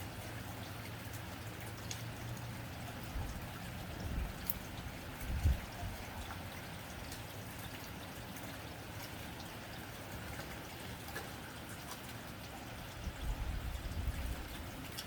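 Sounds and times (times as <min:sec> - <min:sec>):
rain on a tin roof: 0:00.0 - 0:15.0.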